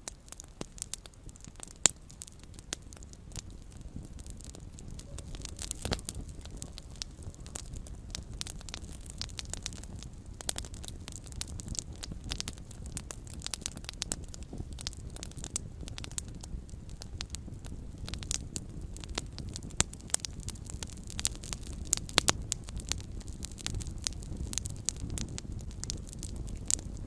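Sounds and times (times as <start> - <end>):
campfire crackling: 0.0 - 27.0
low steady rumble: 0.0 - 27.0.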